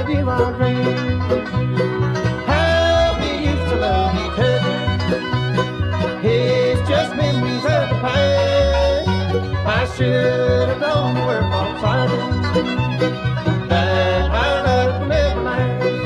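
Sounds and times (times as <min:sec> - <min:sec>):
acoustic guitar: 0:00.0 - 0:16.0
five-string banjo rolling: 0:00.0 - 0:16.0
mandolin: 0:00.0 - 0:16.0
walking bass line: 0:00.0 - 0:16.0.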